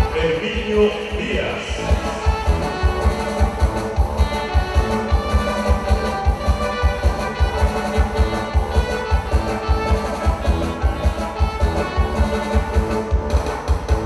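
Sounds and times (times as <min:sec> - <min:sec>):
regional dance music: 0:00.0 - 0:14.0.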